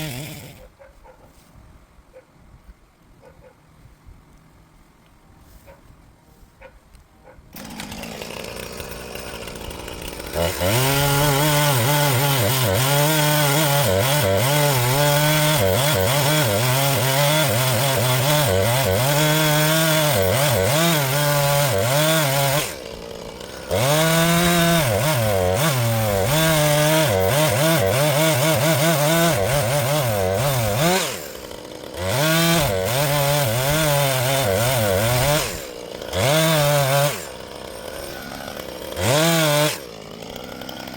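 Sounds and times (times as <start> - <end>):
chainsaw cutting wood: 0.0 - 0.8, 7.5 - 40.9.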